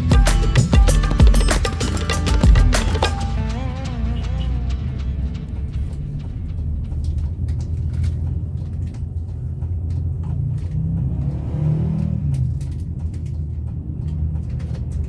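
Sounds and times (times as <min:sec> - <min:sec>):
bus engine and road rumble: 0:02.2 - 0:15.0.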